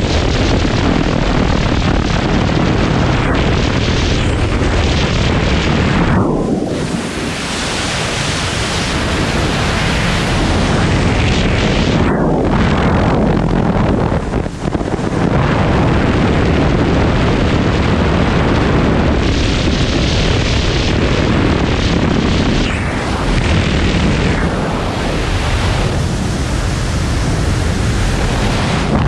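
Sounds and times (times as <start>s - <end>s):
freefall wind rushing over microphone: 0.0s - 29.0s.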